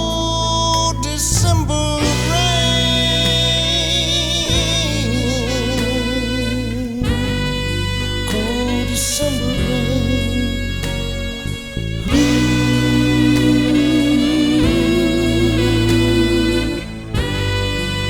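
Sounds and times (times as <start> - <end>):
blues band backing: 0.0 - 18.0
person singing: 0.0 - 18.0
saxophone: 0.0 - 18.0.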